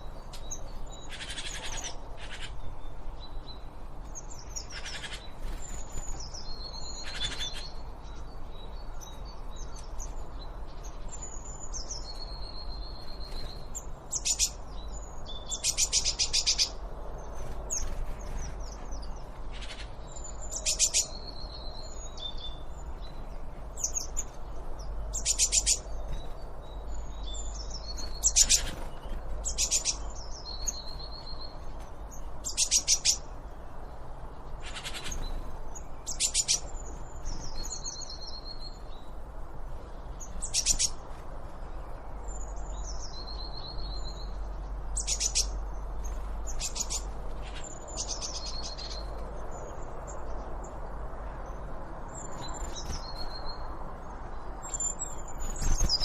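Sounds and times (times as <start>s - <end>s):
songbirds singing trilled phrases: 0.0s - 56.0s.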